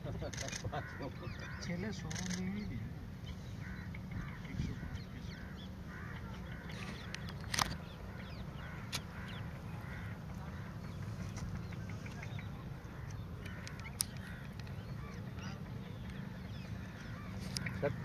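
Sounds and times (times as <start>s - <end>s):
waterbirds calling: 0.0s - 18.0s.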